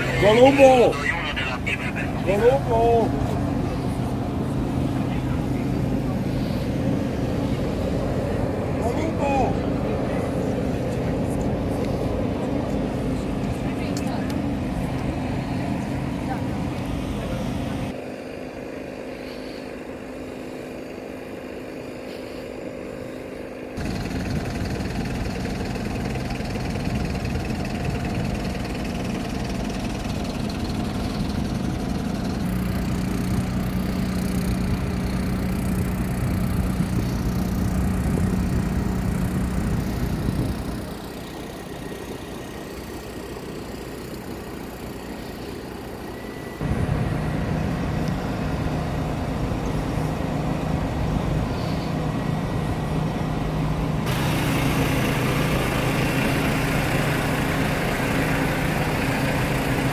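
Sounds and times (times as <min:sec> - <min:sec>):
vehicle engines idling: 0:00.0 - 0:59.9.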